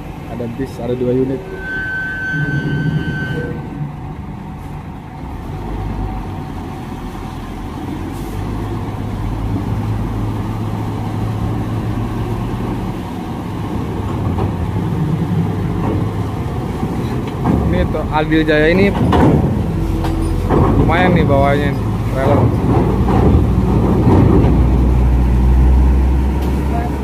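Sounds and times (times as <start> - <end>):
truck diesel engine droning: 0.0 - 27.0.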